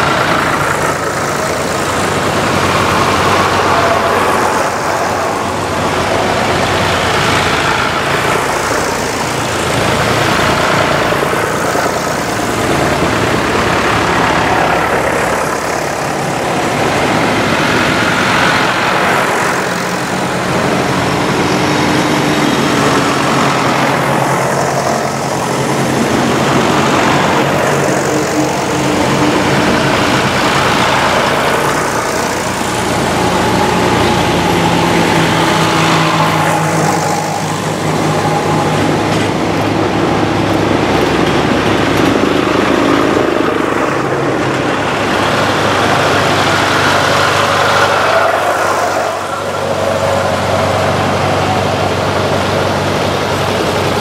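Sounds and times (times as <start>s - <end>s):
tractors driving past: 0.0s - 54.0s.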